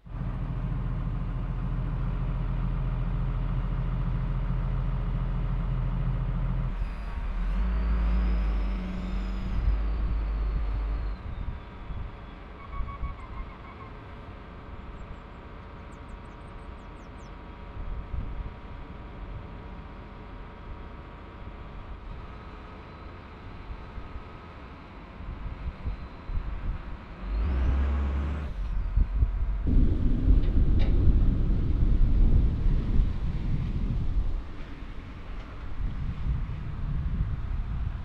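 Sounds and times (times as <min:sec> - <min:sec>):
wheel loader diesel engine: 0:00.0 - 0:12.6, 0:13.2 - 0:38.0.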